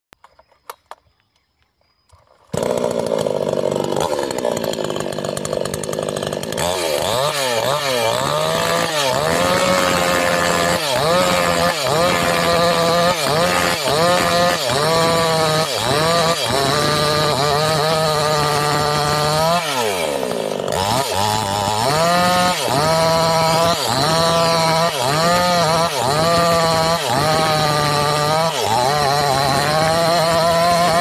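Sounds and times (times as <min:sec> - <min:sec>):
chainsaw engine revving: 0:02.5 - 0:31.0.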